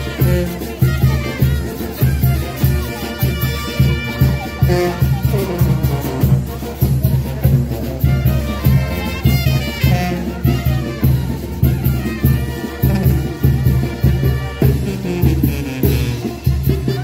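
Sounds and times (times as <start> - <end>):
brass band dance music: 0.0 - 17.0.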